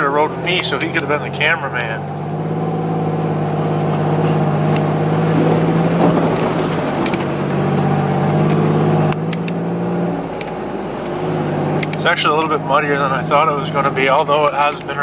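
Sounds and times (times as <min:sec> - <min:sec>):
off-road vehicle engine droning: 0:00.0 - 0:15.0.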